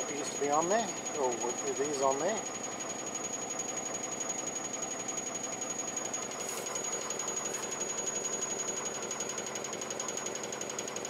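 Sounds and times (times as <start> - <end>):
truck engine idling: 0.0 - 10.5.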